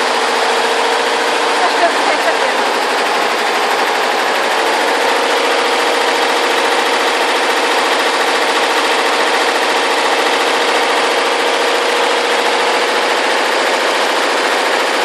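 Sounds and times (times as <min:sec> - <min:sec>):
embroidery machine clattering: 0:00.0 - 0:15.0
machine hum: 0:00.0 - 0:15.0.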